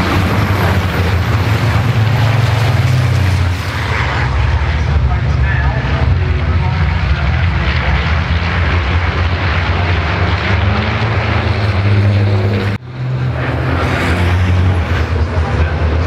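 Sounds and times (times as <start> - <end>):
truck engines passing: 0.0 - 16.0.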